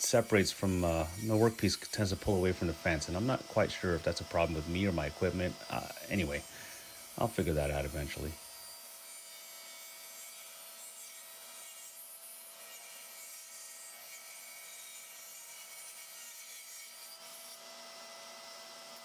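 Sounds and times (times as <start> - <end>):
saw blade cutting wood: 0.0 - 19.0
table saw motor whine: 0.0 - 19.0.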